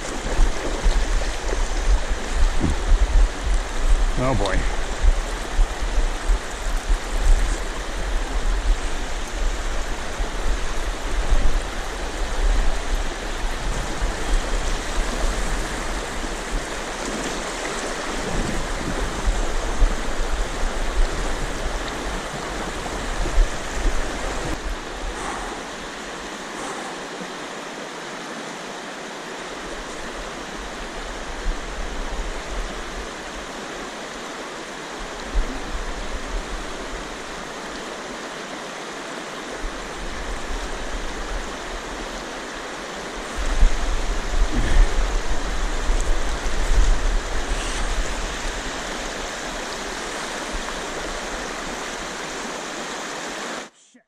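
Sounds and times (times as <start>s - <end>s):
river water rushing over rocks: 0.0s - 53.7s.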